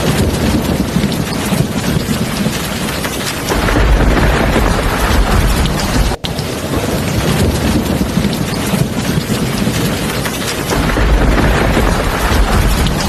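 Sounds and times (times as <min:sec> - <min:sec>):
deep thunder rumble: 0:00.0 - 0:13.0
heavy rain pouring: 0:00.0 - 0:13.0.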